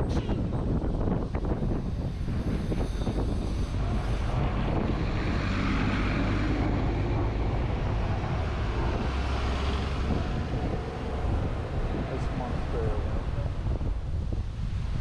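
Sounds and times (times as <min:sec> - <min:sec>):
bus passing: 0:00.0 - 0:15.0
street traffic: 0:00.0 - 0:15.0
wind on microphone: 0:00.0 - 0:15.0.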